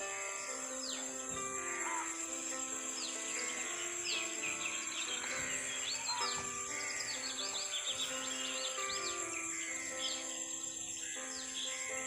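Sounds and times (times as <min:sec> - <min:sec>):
birds chirping: 0:00.0 - 0:12.0
high-pitched insect drone: 0:00.0 - 0:12.0
soft instrumental music: 0:00.0 - 0:12.0.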